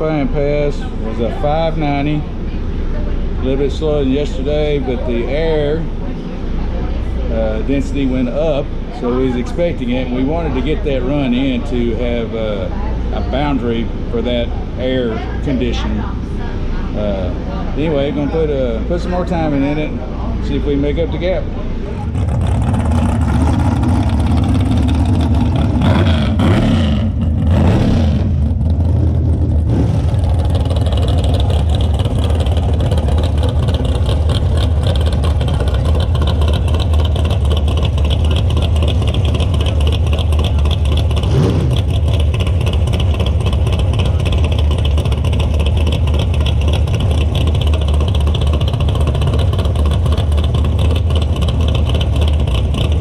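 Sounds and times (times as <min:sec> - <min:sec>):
race car engine rumbling: 0:00.0 - 0:53.0.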